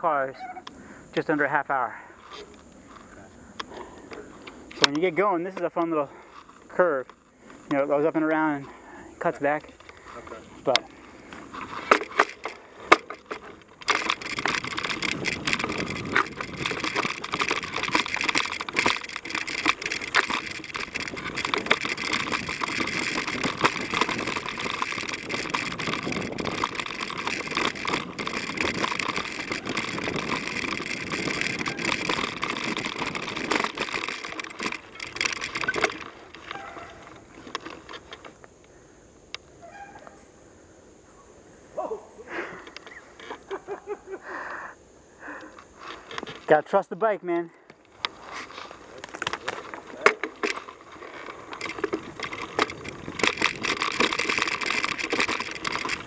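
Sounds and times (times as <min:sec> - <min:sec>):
bike tyres rolling over dirt: 0:00.0 - 0:38.9, 0:45.3 - 0:56.0
bike clicks and knocks: 0:02.3 - 0:08.7, 0:09.4 - 0:38.7, 0:45.4 - 0:46.6, 0:47.3 - 0:56.0.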